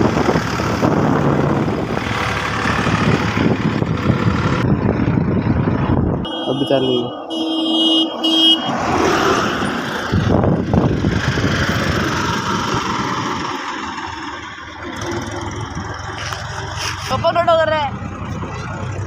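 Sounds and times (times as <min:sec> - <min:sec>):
diesel engine starting and running: 0:00.0 - 0:19.0.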